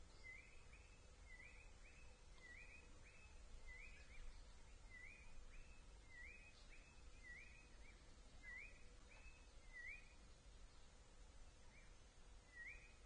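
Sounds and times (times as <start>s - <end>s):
bird call chirps: 0.2s - 10.2s, 11.7s - 13.0s.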